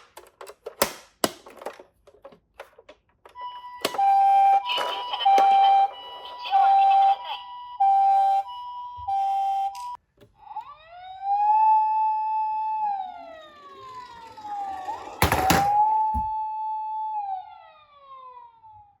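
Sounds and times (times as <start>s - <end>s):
siren wailing: 3.4s - 19.0s.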